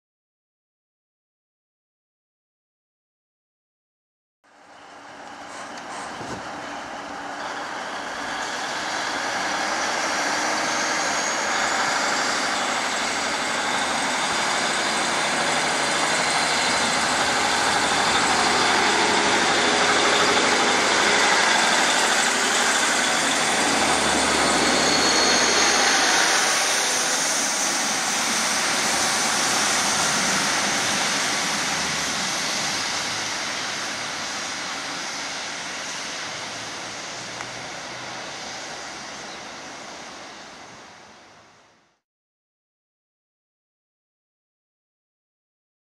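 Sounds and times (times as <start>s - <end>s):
diesel train pulling away: 4.5s - 42.0s
train wheels passing: 4.7s - 41.6s.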